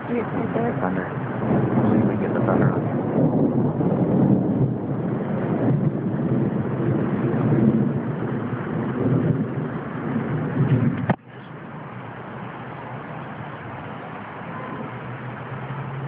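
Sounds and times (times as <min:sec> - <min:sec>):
thunder rumbling: 0:00.0 - 0:16.0.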